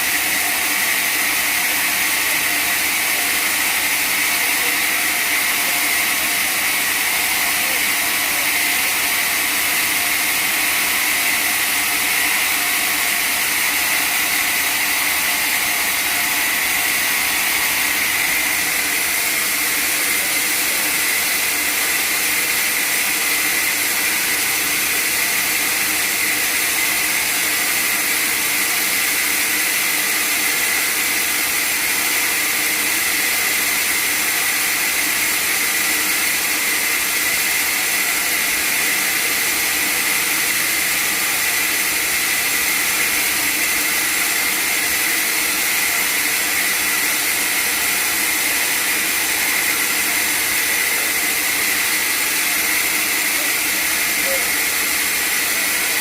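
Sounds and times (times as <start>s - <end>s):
sawmill saw whining: 0.0s - 56.0s.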